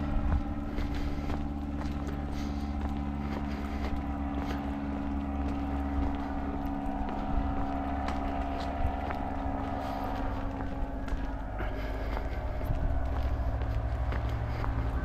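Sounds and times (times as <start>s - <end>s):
footsteps clicking: 0.0s - 15.0s
steady motor hum: 0.0s - 15.0s
wind rumbling on microphone: 0.0s - 15.0s.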